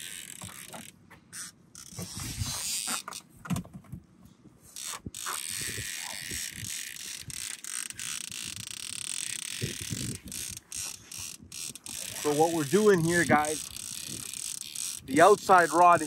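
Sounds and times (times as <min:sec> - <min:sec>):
fishing reel ratcheting: 0:00.0 - 0:03.2, 0:04.8 - 0:16.0.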